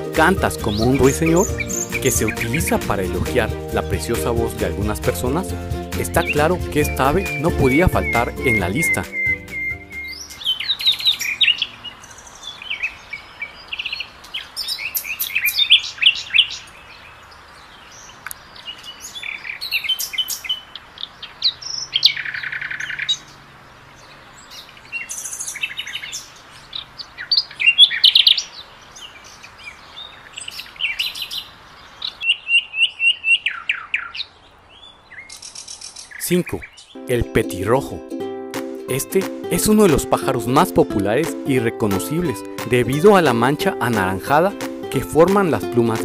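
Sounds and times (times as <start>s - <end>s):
nightingale singing: 0.0s - 23.4s, 24.0s - 46.0s.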